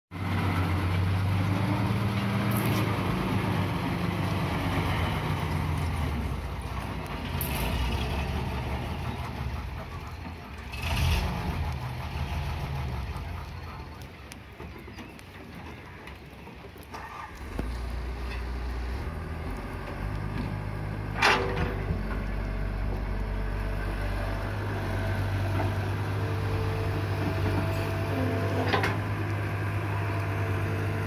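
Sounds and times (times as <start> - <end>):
diesel excavator engine running: 0.1 - 31.0.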